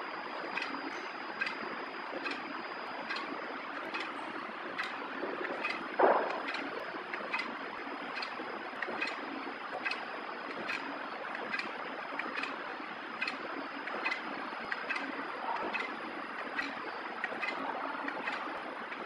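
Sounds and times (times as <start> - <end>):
machine ticking: 0.2 - 19.0.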